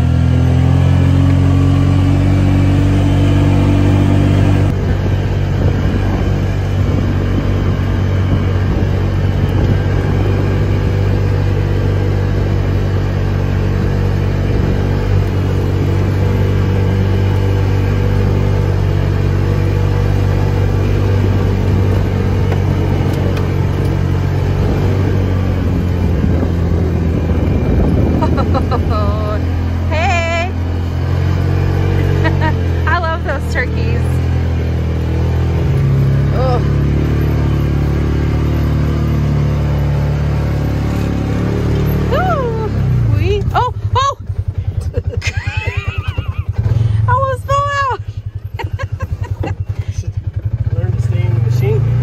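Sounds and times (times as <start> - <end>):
low hum: 0.0 - 51.3
tyres on gravel road noise: 0.0 - 52.0
vehicle engine running: 0.0 - 52.0.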